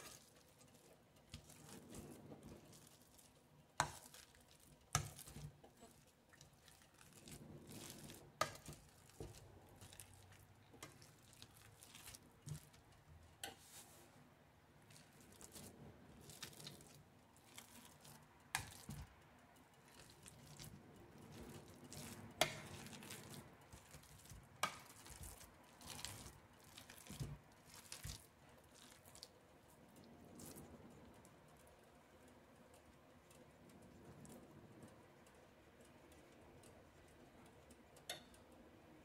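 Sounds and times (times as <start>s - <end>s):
soft squishing of mashed squash: 0.0s - 39.0s.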